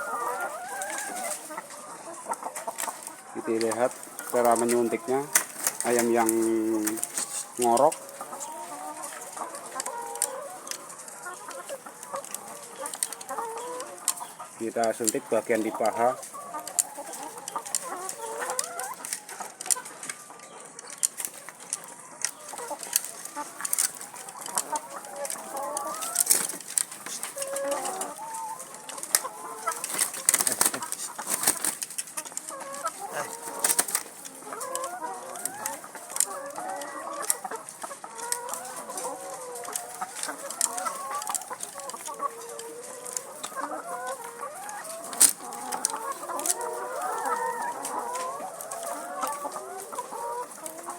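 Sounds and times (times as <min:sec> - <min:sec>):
hens clucking: 0:00.0 - 0:50.9.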